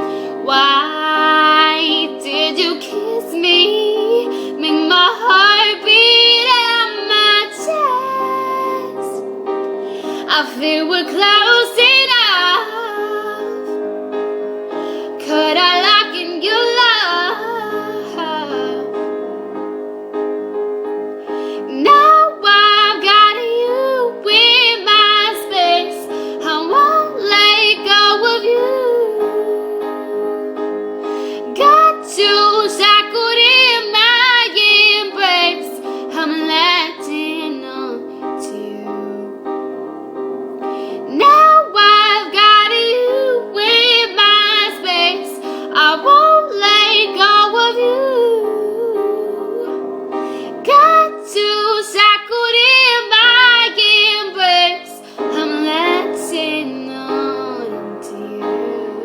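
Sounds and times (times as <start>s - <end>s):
woman singing with vibrato: 0.0s - 9.4s, 15.2s - 19.0s, 21.7s - 30.6s, 31.5s - 39.5s, 41.1s - 49.8s, 50.6s - 59.0s
sustained backing chords: 0.0s - 59.0s.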